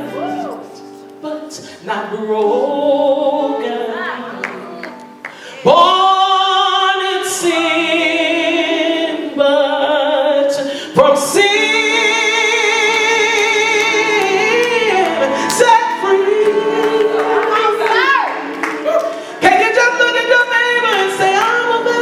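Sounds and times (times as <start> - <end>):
man singing gospel: 0.0 - 4.4, 5.6 - 22.0.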